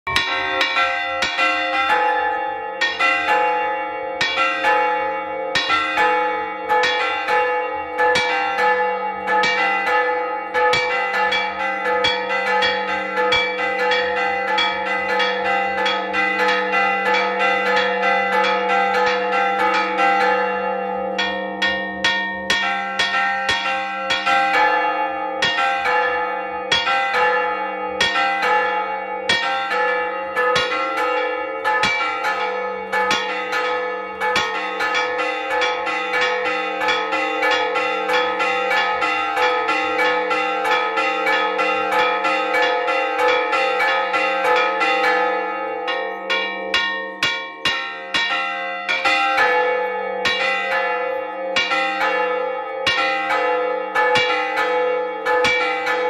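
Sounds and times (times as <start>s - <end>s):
church bells ringing rapidly: 0.0s - 56.0s.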